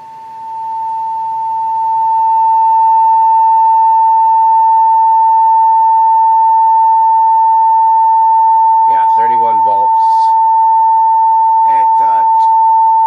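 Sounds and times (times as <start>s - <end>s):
steady test tone: 0.0s - 13.0s.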